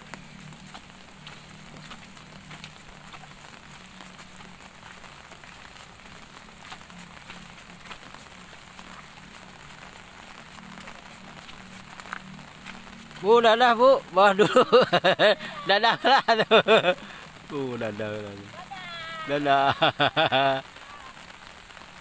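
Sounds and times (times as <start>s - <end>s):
raindrops ticking: 0.0s - 22.0s
soft patter of rain: 0.0s - 22.0s.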